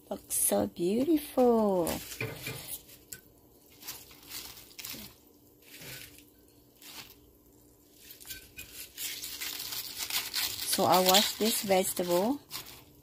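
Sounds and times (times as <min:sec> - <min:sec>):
cabbage leaves rustling and squishing: 0:00.8 - 0:13.0.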